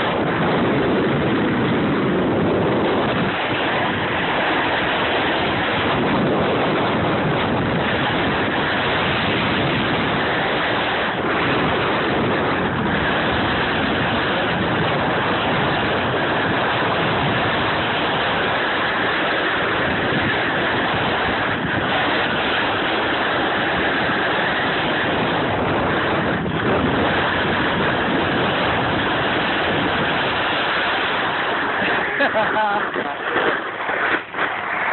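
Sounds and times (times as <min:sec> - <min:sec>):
wind on microphone: 0:00.0 - 0:34.9
skis sliding over snow: 0:02.0 - 0:34.9.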